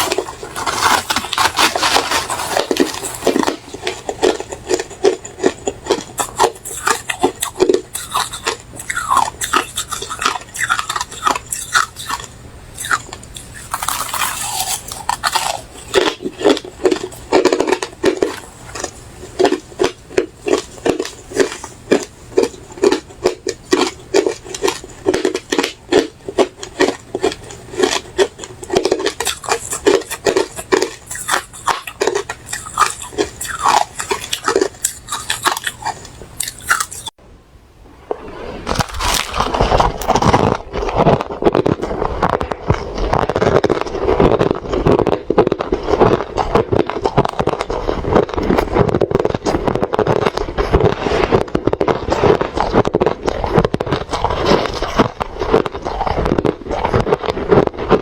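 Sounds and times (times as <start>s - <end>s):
crushed ice being chewed: 0.0s - 37.2s, 38.6s - 58.0s.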